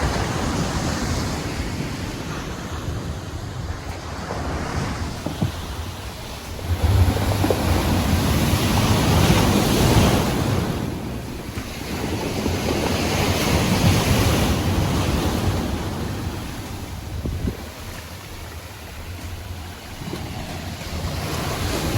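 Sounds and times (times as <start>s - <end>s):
waves breaking on beach: 0.0s - 21.9s
wind rumble on microphone: 0.0s - 21.9s.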